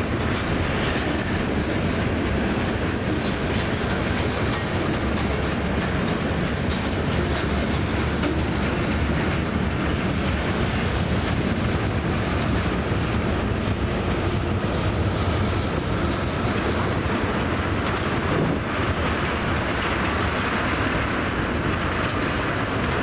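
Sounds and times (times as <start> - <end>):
steel train wheels on rails: 0.0 - 23.0.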